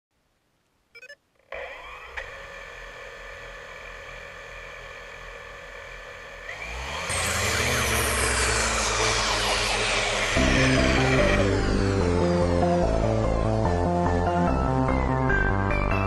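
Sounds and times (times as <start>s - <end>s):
drone motors whining: 1.0s - 14.7s.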